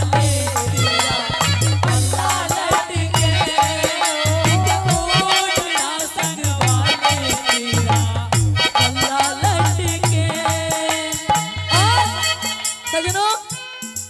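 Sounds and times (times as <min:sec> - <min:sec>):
hand drum beat: 0:00.0 - 0:12.2
harmonium melody: 0:00.0 - 0:14.0.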